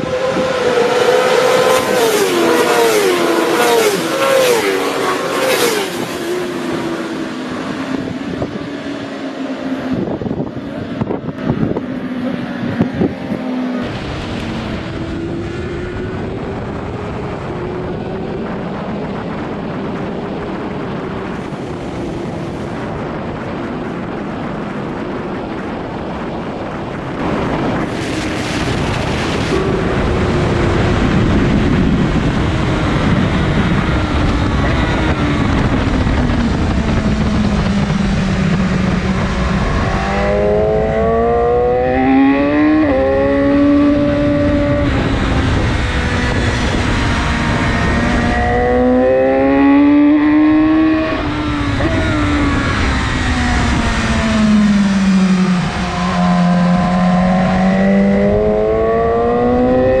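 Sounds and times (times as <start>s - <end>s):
motorcycle engine revving: 0.0s - 24.6s, 26.9s - 60.0s
wind noise on microphone: 0.0s - 60.0s.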